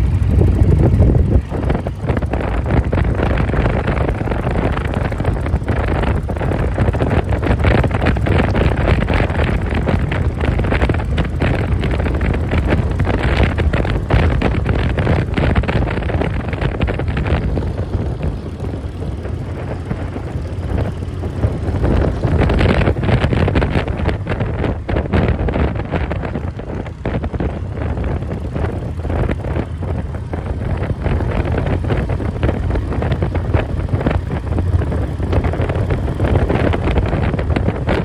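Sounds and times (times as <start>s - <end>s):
motorcycle engine running: 0.0s - 38.0s
wind buffeting microphone: 0.0s - 38.0s.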